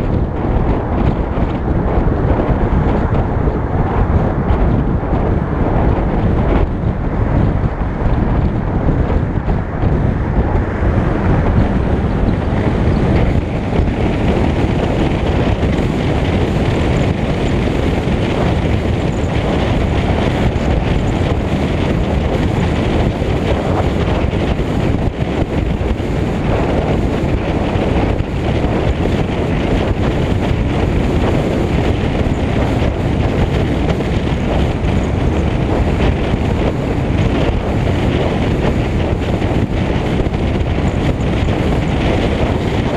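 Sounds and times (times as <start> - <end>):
road and tyre noise: 0.0 - 42.9
wind rush and buffeting: 0.0 - 42.9.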